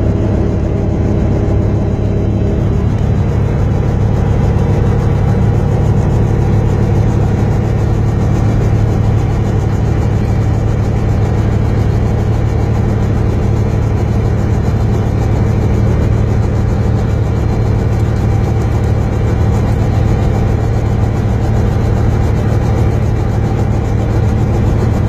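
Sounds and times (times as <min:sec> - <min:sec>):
helicopter engine and rotor: 0:00.0 - 0:25.0.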